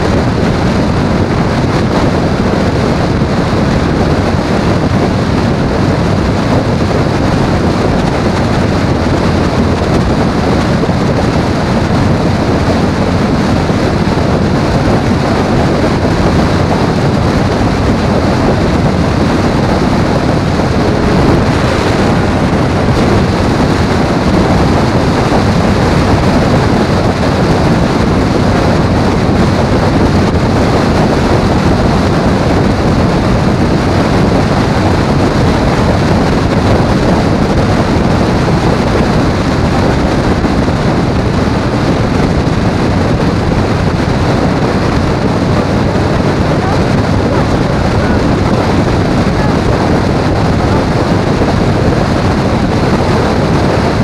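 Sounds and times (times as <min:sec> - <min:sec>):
vehicle engine and road noise: 0:00.0 - 0:54.0
wind buffeting microphone: 0:00.0 - 0:54.0.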